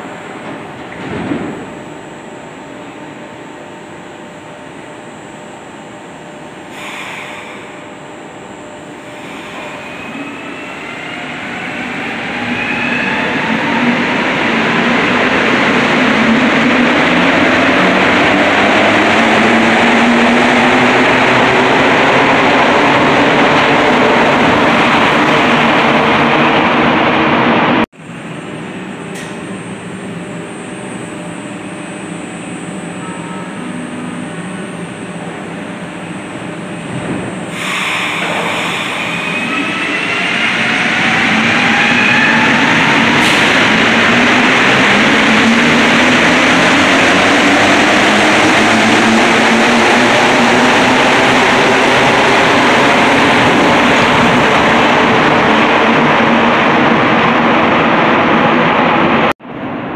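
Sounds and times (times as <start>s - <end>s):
train hum at platform: 0.0s - 59.9s.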